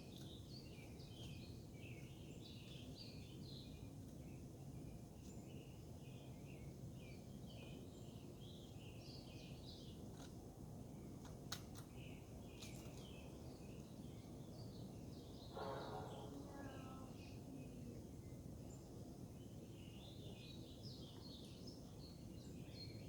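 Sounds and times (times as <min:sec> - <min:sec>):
small songbirds chirping: 0:00.0 - 0:23.0.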